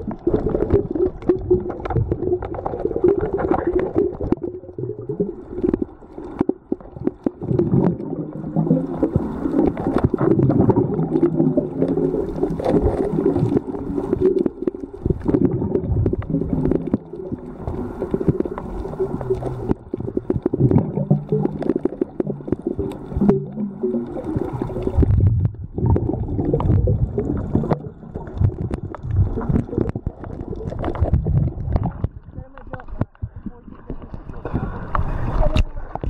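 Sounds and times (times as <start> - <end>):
muffled underwater rumble: 0.0 - 36.0
sharp clicks and crackles: 0.0 - 36.0.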